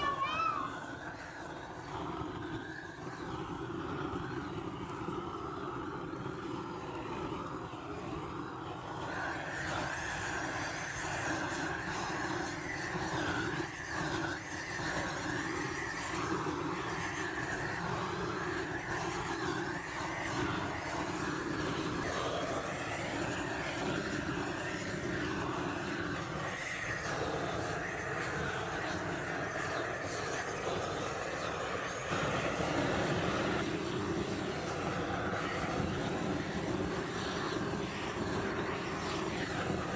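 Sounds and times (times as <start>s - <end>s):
blowtorch hissing: 0.0s - 39.9s.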